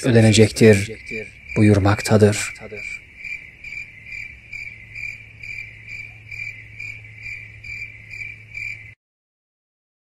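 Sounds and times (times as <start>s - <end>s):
insect chirping: 0.0s - 9.0s
low steady hum: 0.0s - 9.0s.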